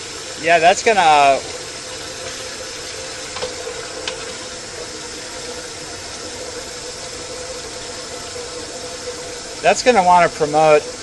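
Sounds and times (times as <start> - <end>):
machine hum: 0.0 - 11.0
water running into drain: 0.0 - 11.0.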